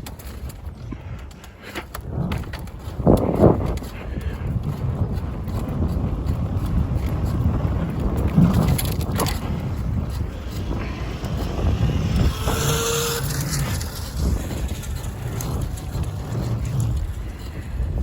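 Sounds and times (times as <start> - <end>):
road noise: 0.0 - 18.0
wind rumbling on microphone: 0.0 - 18.0.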